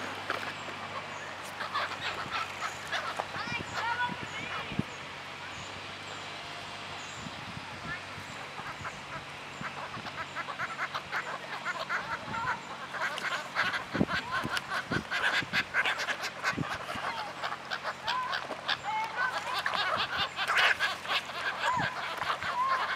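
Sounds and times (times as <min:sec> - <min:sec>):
gulls and waterbirds calling: 0:00.0 - 0:22.9.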